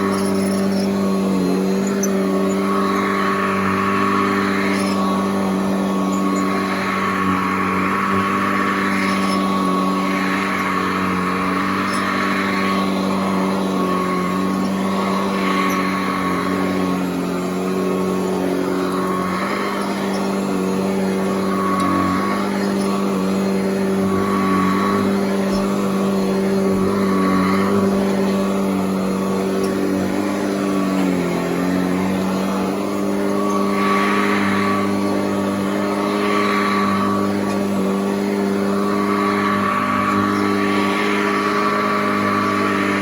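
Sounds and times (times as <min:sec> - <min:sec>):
vacuum cleaner running: 0:00.0 - 0:43.0.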